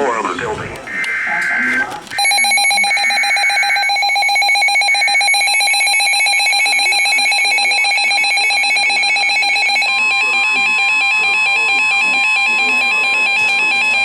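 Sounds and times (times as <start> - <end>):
buzzy multi-tone alert alarm: 0.0 - 14.0.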